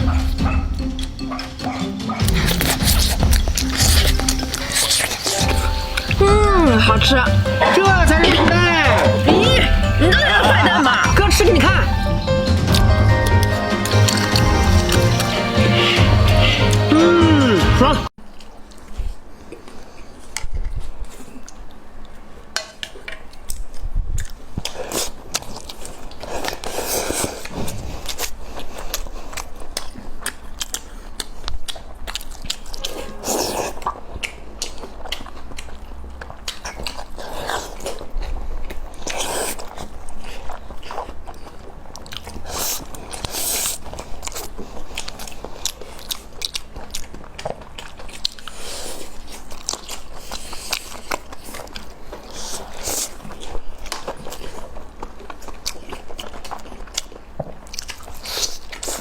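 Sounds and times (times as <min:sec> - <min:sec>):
person chewing crunchy food: 0:00.0 - 0:06.5, 0:11.8 - 0:17.5, 0:18.2 - 0:59.0.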